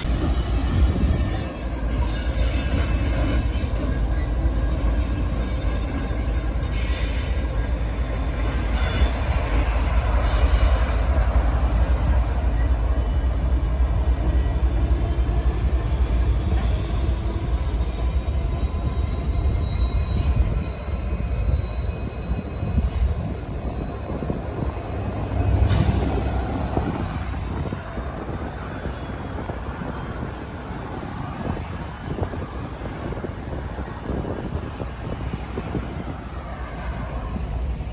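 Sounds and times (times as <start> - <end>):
freight train rumbling past: 0.0 - 37.9.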